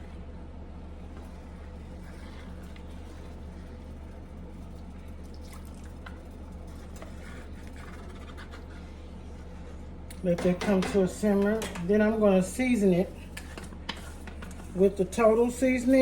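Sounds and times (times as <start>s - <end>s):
liquid swishing in a saucepan: 0.0s - 16.0s.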